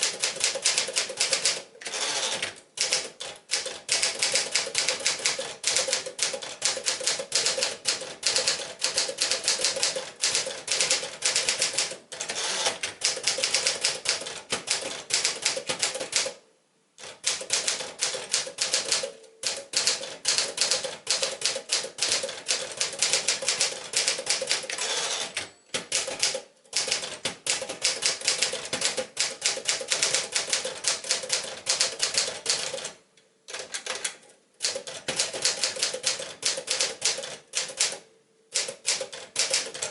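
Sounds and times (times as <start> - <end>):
manual typewriter clatter: 0.0 - 16.4, 17.0 - 38.0, 38.6 - 39.9.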